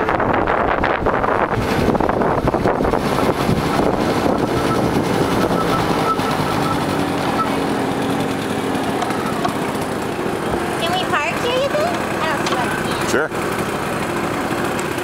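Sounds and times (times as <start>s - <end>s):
scooter engines at low speed: 0.0s - 15.0s.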